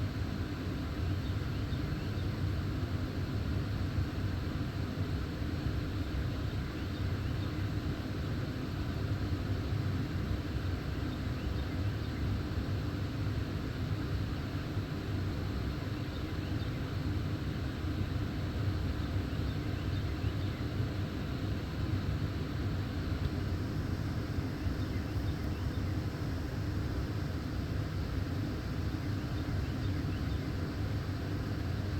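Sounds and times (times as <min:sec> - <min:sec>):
low rumbling background noise: 0:00.0 - 0:31.9.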